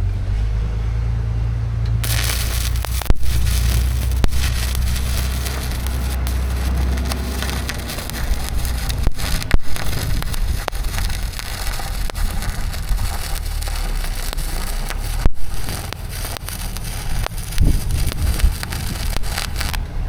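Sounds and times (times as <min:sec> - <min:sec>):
sharp pops: 0:02.0 - 0:19.8
welding arc crackling and sizzling: 0:02.0 - 0:19.9
low hum: 0:02.0 - 0:20.0.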